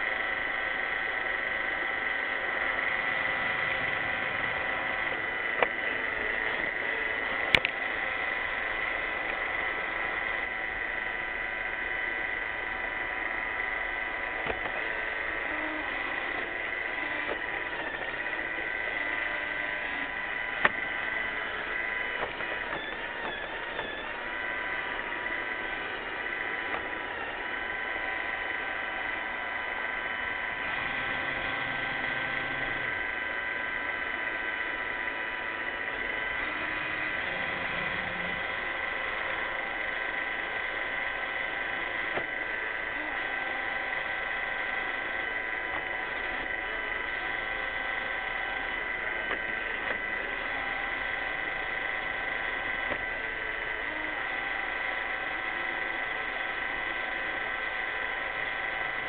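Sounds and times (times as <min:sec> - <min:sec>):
robot vacuum whining: 0:00.0 - 0:59.0.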